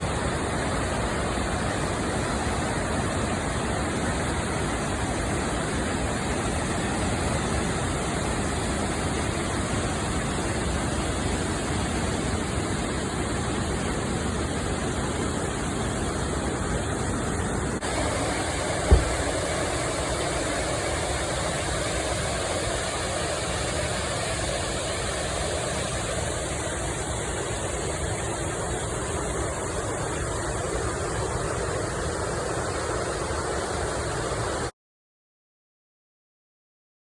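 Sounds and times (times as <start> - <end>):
waterfall rushing: 0.0 - 31.4.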